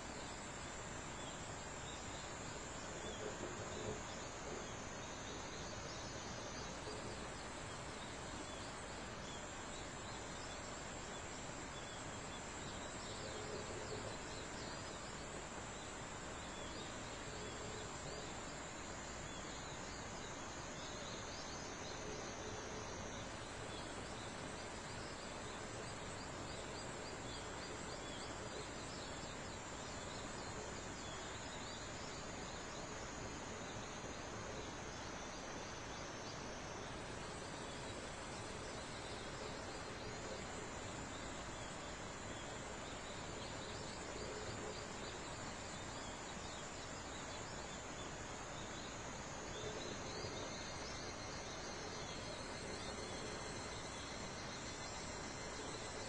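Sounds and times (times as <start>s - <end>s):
high insect tone: 0.0s - 56.0s
low hiss: 0.0s - 56.0s.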